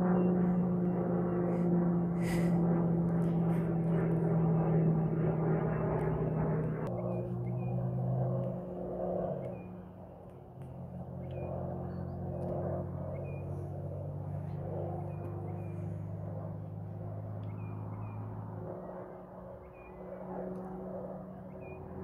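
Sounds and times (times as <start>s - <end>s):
distant aircraft engine droning: 0.0s - 22.0s.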